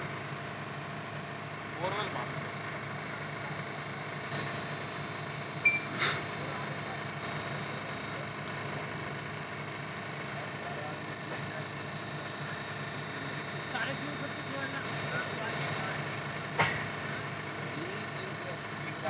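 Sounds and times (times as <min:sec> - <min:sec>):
drilling rig engine idling: 0:00.0 - 0:19.0
high whine: 0:00.9 - 0:19.0.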